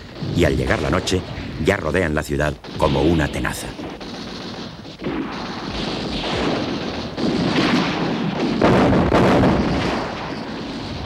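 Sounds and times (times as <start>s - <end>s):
artillery fire and explosions: 0.0s - 11.0s.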